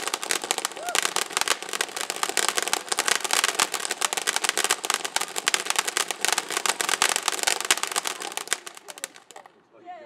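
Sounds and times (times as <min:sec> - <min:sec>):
firework fountain crackling: 0:00.0 - 0:09.6.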